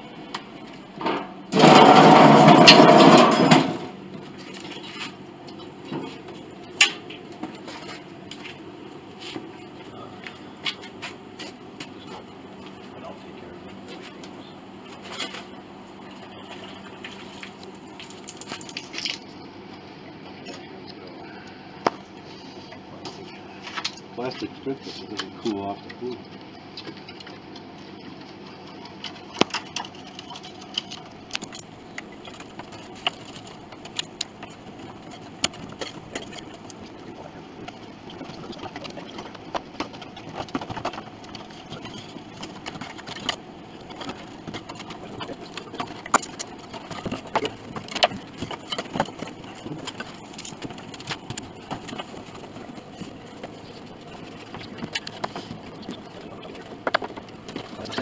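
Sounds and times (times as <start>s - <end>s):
steady background noise: 0.0s - 58.0s.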